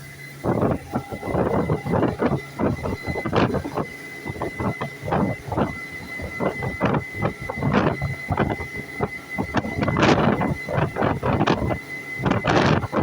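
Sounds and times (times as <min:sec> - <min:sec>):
boat engine high whine: 0:00.0 - 0:13.0
rushing water and wind: 0:00.4 - 0:13.0.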